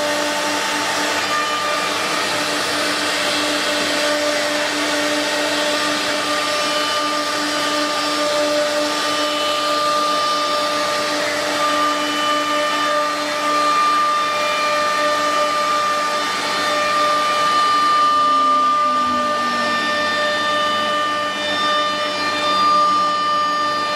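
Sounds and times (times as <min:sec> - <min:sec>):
router spindle whining: 0:00.0 - 0:23.9.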